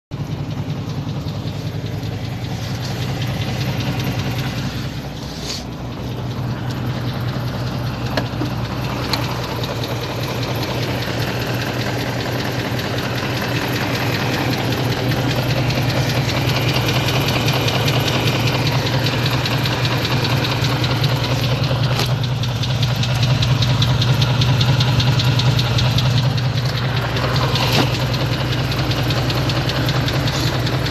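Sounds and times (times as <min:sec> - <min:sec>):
knocking car engine running: 0:00.1 - 0:30.9.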